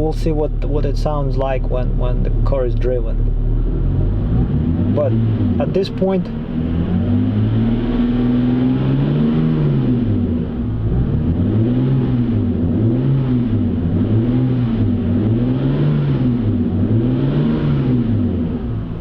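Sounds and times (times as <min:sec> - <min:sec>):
car engine idling with deep exhaust drone: 0:00.0 - 0:19.0.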